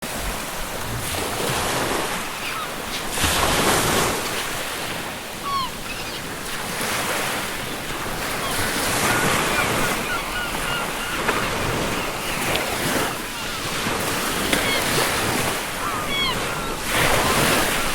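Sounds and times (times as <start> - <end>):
ocean surf washing ashore: 0.0 - 17.9
seagulls calling: 2.0 - 17.9.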